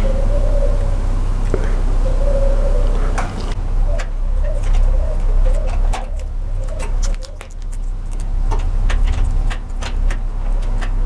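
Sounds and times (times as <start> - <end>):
doves cooing: 0.0 - 11.0
steady low hum: 0.0 - 11.0.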